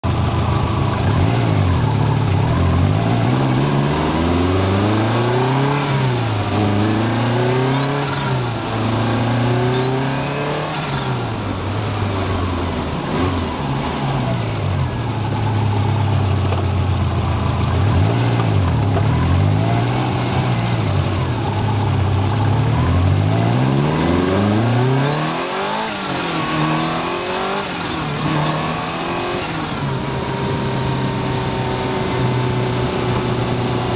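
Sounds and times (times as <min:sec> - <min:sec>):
car engine revving: 0:00.0 - 0:33.9
high-pitched turbo whine: 0:00.1 - 0:16.4, 0:17.0 - 0:33.9.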